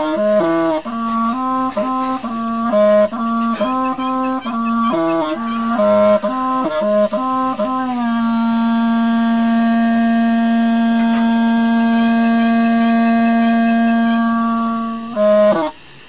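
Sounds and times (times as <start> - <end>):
bamboo reed pipe melody: 0.0 - 15.8.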